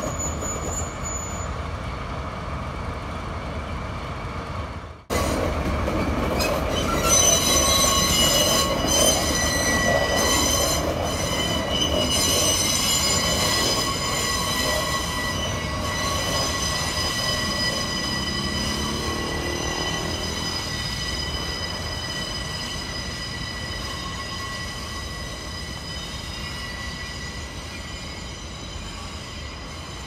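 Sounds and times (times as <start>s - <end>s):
train wheel flange squeal: 0.0s - 2.0s, 5.1s - 30.0s
diesel locomotive running: 0.0s - 30.0s.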